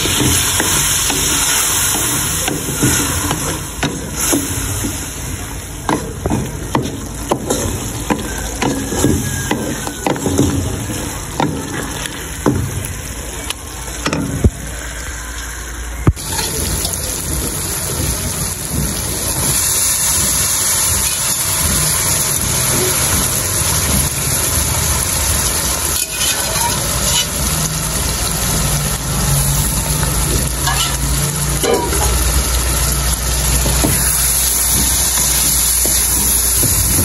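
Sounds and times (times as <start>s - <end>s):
hissing sizzle of frying: 0.0s - 37.0s.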